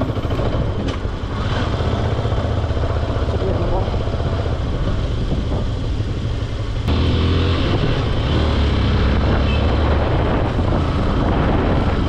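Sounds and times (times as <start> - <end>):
motorcycle engine running: 0.0 - 12.0
road noise: 0.0 - 12.0
wind: 0.0 - 12.0.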